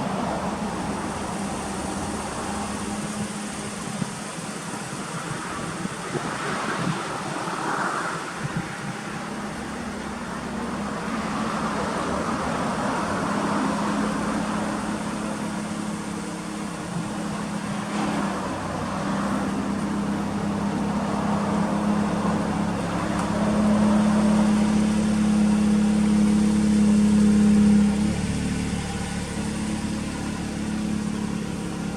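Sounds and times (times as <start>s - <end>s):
car engine idling: 0.0s - 7.6s, 8.2s - 31.9s.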